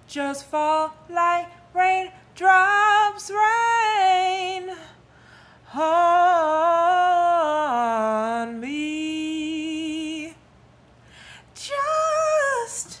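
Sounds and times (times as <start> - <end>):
person singing a cappella: 0.0 - 5.0, 5.6 - 10.4, 11.4 - 13.0.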